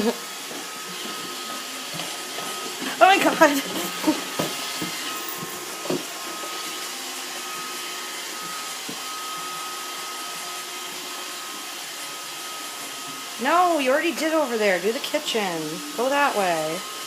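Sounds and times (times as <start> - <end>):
robot vacuum whirring hum: 0.0 - 17.0.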